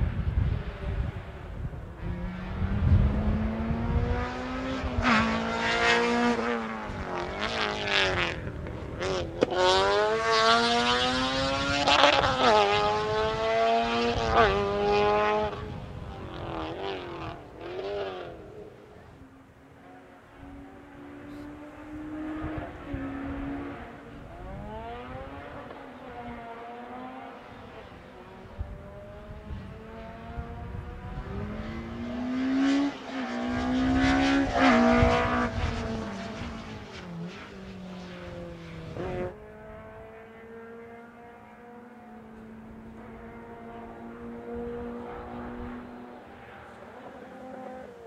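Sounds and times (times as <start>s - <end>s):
rally car engines revving: 0.0s - 48.0s.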